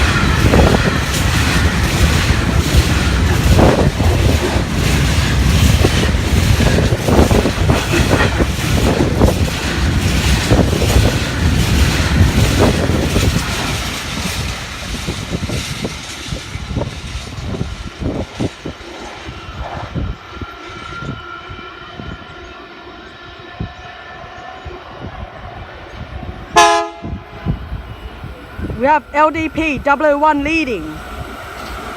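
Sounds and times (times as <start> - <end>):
train wagons rumbling past: 0.0 - 31.9.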